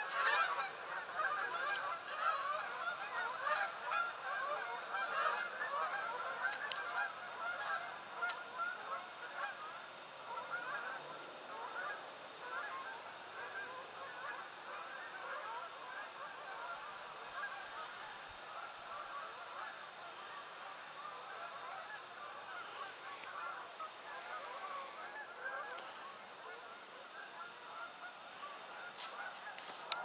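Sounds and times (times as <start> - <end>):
flock of geese honking: 0.0 - 30.0.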